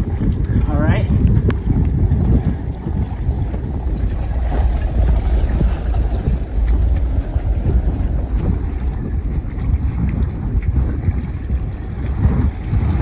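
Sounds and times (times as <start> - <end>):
choppy water washing around boat: 0.0 - 13.0
strong wind buffeting microphone: 0.0 - 13.0.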